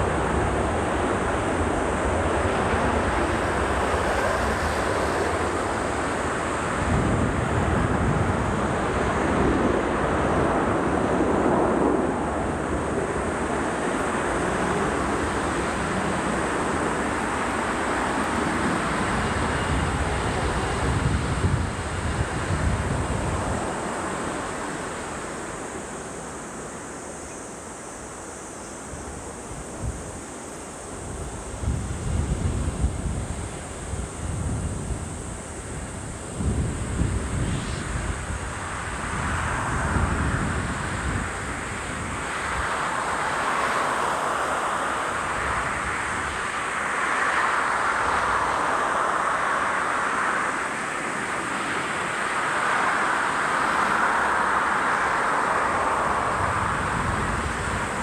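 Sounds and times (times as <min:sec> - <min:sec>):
wind buffeting microphone: 0:00.0 - 0:25.1, 0:31.0 - 0:58.0
jet airliner noise: 0:00.0 - 0:58.0.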